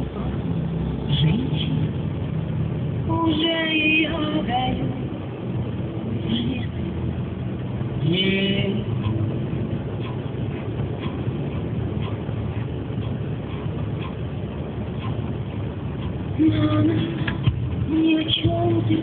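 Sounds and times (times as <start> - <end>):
car engine: 0.0 - 19.0
tyre road noise: 0.0 - 19.0.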